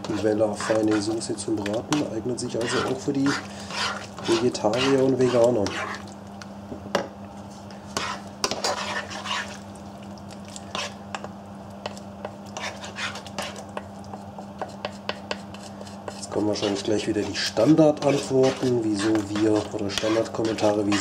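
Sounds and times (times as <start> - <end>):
spatula scraping a pan: 0.0 - 6.0, 7.7 - 9.6, 10.7 - 11.2, 12.6 - 21.0
steady low hum: 0.0 - 21.0.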